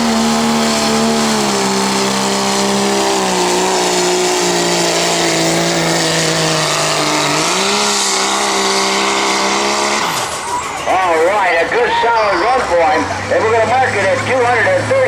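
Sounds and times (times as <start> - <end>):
diesel truck engine at full throttle: 0.0 - 15.0.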